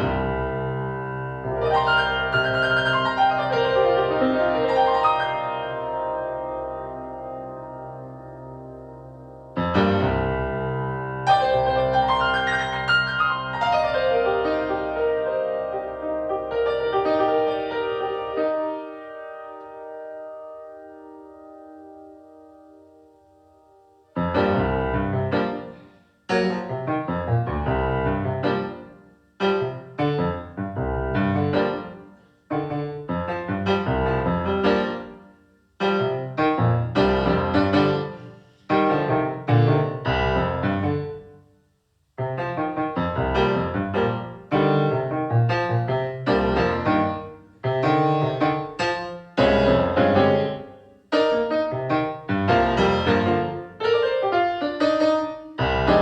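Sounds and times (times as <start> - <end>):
piano chords ringing: 0.0 - 41.6, 42.2 - 56.0.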